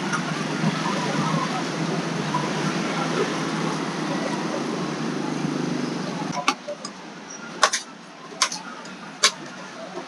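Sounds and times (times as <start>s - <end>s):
street traffic hum: 0.0s - 10.0s.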